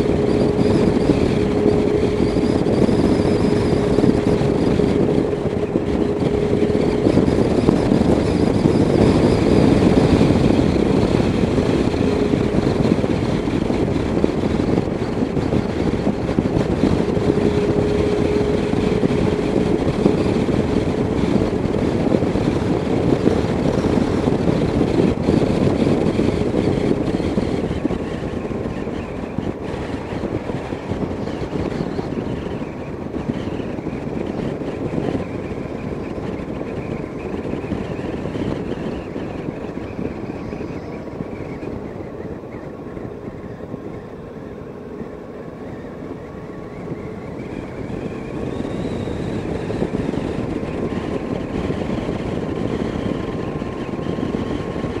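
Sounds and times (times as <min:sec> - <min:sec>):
faint steady whine: 0:00.0 - 0:55.0
motorcycle engine running: 0:00.0 - 0:55.0
wind rushing over microphone: 0:00.0 - 0:55.0.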